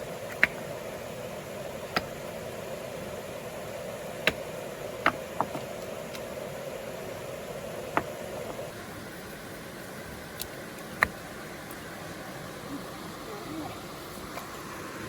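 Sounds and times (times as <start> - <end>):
steady machine-like hum: 0.0 - 15.0.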